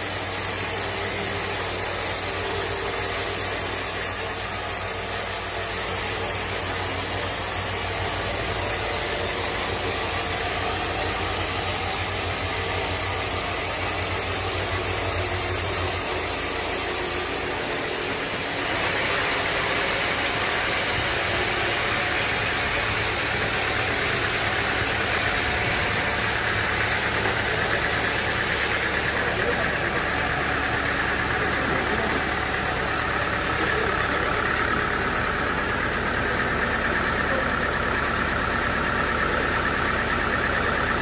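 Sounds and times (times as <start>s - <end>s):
bright hissy noise: 0.0s - 37.1s
sawmill machinery running: 0.0s - 41.0s.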